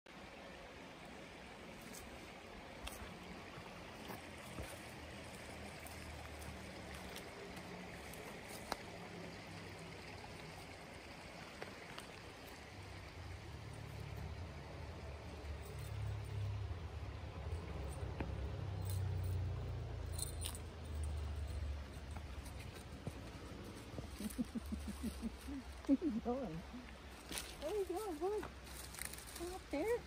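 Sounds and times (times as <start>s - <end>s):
stream water running: 0.1s - 30.0s.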